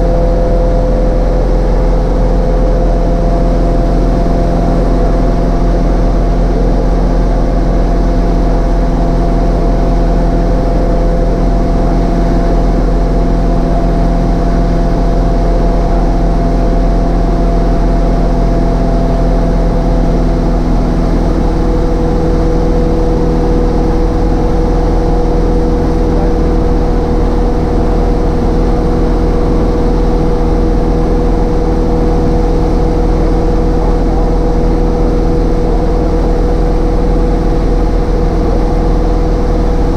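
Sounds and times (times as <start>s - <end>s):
airplane engine droning: 0.0s - 39.9s.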